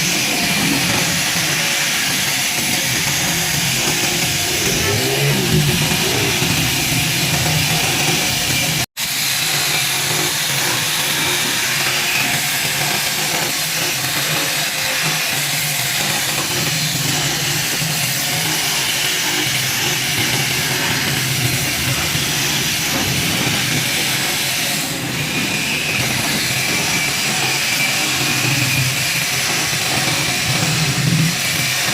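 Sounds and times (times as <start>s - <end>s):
power tool whirring: 0.1s - 31.9s.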